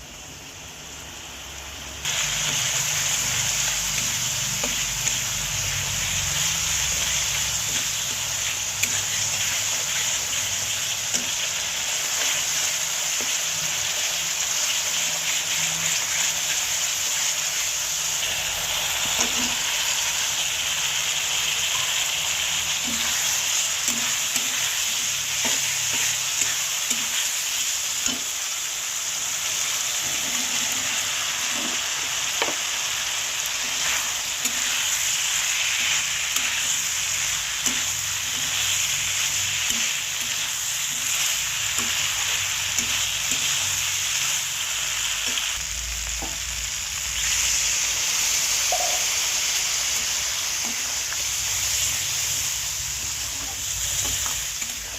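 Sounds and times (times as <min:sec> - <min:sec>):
vegetables sizzling in hot oil: 0:00.0 - 0:54.9.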